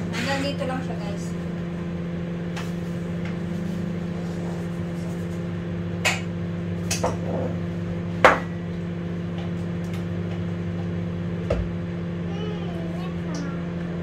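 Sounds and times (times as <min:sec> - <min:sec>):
kitchen appliance hum: 0:00.0 - 0:14.0.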